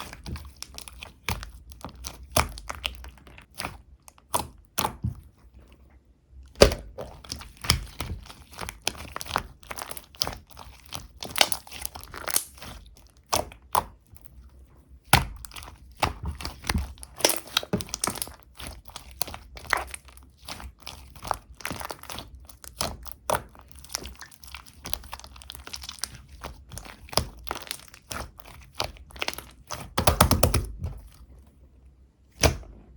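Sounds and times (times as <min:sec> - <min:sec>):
slime crackling and popping: 0:00.0 - 0:05.1, 0:06.5 - 0:14.3, 0:15.0 - 0:31.2
slime squish: 0:00.0 - 0:32.9.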